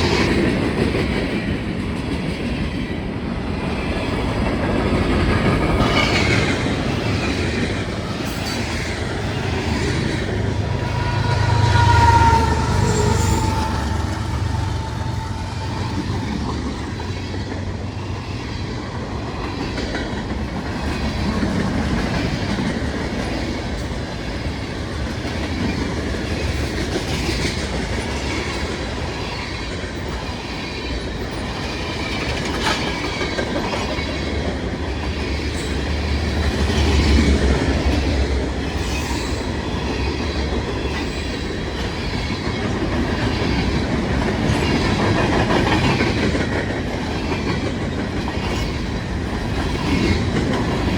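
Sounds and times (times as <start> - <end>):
freight train rumble: 0.0 - 50.9
train wheels clacking on rail joints: 0.0 - 50.9.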